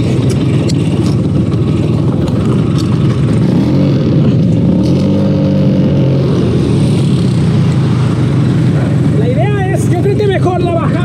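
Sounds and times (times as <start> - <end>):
scooter engine revving: 0.0 - 9.2.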